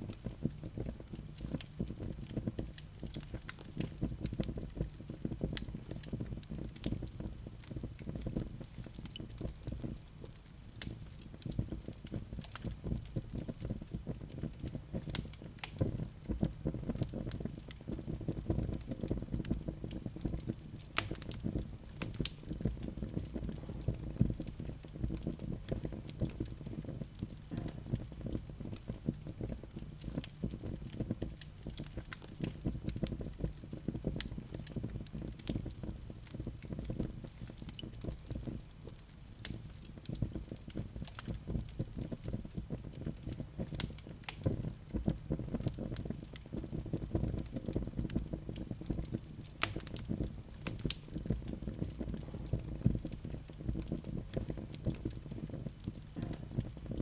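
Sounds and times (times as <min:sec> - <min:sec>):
low rumble of flames: 0:00.0 - 0:57.0
wood crackling and popping: 0:00.1 - 0:57.0.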